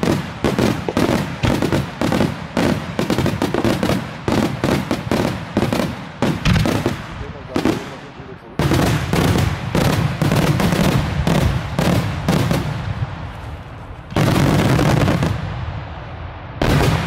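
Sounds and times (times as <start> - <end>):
fireworks bangs with rumbling echo: 0.0 - 17.0.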